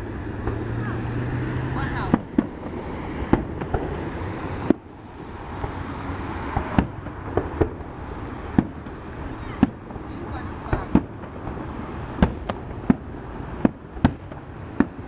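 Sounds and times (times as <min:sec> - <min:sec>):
background rumble and hiss: 0:00.0 - 0:15.0
fireworks bangs: 0:00.0 - 0:15.0.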